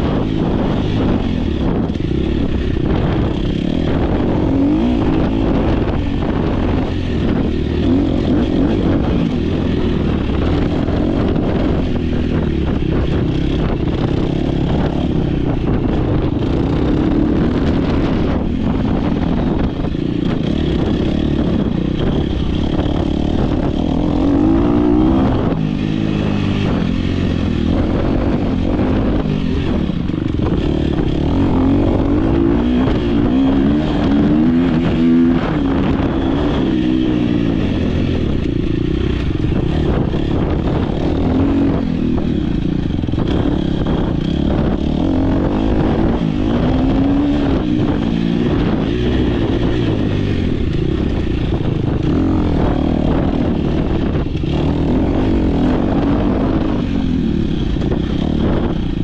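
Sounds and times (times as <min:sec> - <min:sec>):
dirt bike engine revving: 0:00.0 - 0:59.0
noisy rush: 0:00.0 - 0:59.0.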